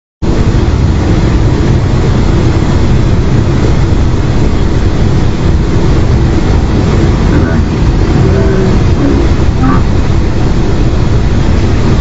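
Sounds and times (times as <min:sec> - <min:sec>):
electric train rumbling: 0:00.2 - 0:12.0.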